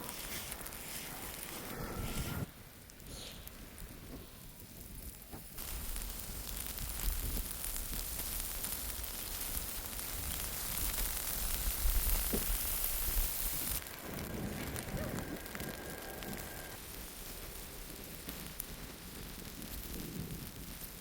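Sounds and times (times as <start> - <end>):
wind blowing across microphone: 3.5 - 21.0.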